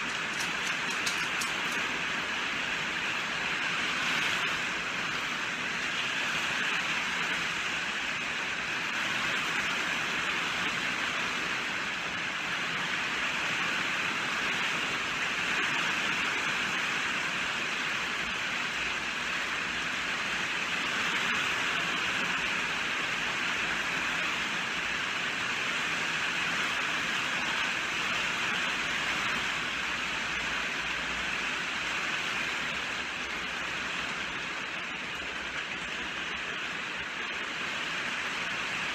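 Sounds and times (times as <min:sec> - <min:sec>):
dense rain hissing: 0:00.0 - 0:38.9.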